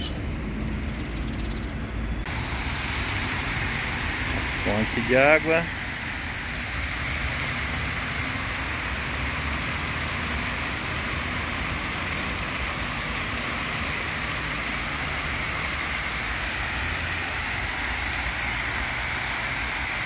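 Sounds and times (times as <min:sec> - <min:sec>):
fountain jets splashing: 0:02.3 - 0:20.0.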